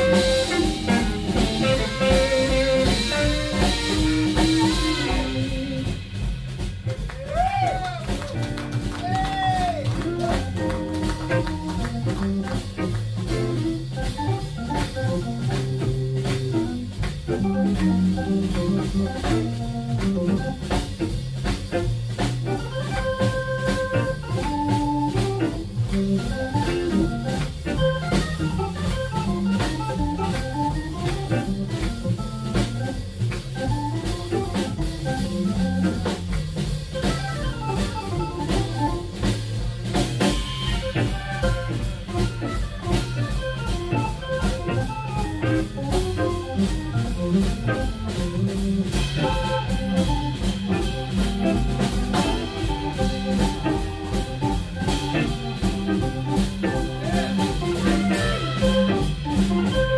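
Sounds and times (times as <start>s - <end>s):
organ playing melody and chords: 0.0s - 7.2s, 8.1s - 59.9s
drum kit shuffle groove: 0.0s - 59.9s.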